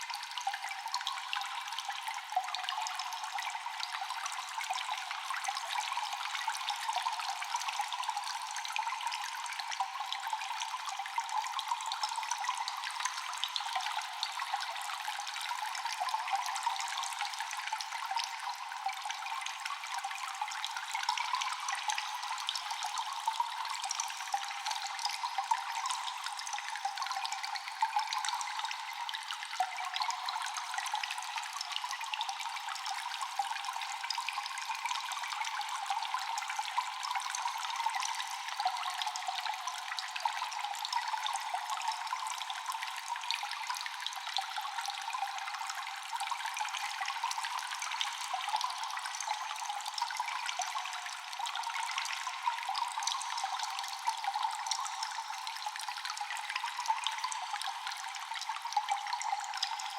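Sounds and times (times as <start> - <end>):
water dripping in a cave: 0.0 - 59.9.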